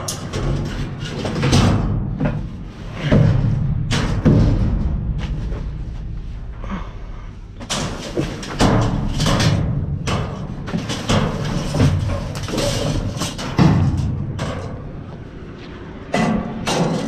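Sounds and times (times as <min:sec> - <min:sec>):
junk knocking and clattering: 0:00.0 - 0:06.8, 0:07.5 - 0:15.3, 0:16.0 - 0:17.0
low rumble: 0:00.0 - 0:17.0.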